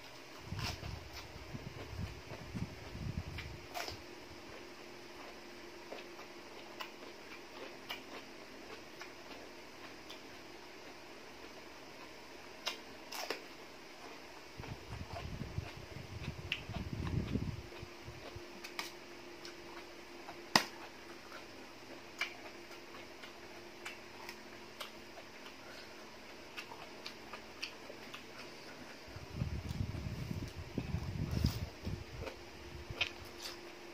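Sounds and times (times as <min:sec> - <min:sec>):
chewing crisp vegetables: 0:00.0 - 0:33.9.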